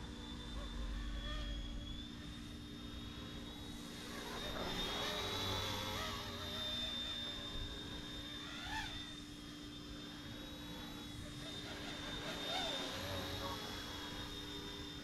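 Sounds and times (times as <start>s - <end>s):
rc helicopter motor and rotors whine: 0.0s - 15.0s.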